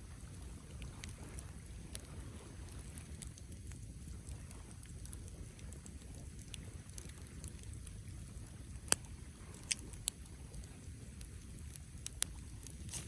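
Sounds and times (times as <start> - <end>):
campfire low rumble: 0.0 - 13.0
fire crackles and pops: 0.0 - 13.0.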